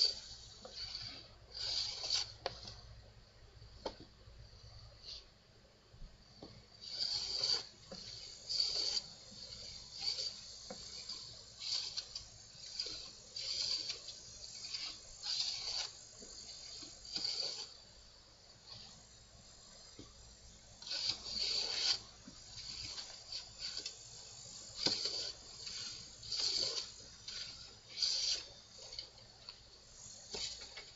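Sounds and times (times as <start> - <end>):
hand plane hissing strokes: 0.0 - 2.5, 6.5 - 17.9, 18.6 - 30.9.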